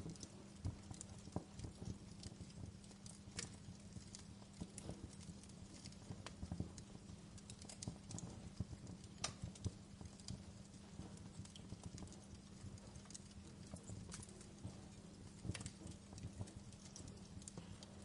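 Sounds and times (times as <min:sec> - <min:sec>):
steady low hum: 0:00.0 - 0:18.0
wood fire crackling: 0:00.0 - 0:18.0.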